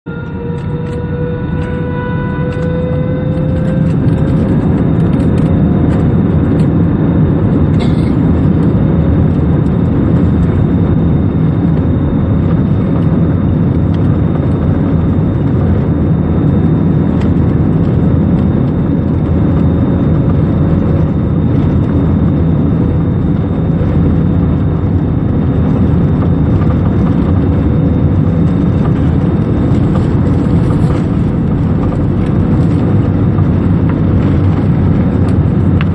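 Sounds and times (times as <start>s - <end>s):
aeroplane engines rumbling: 0.0s - 35.9s.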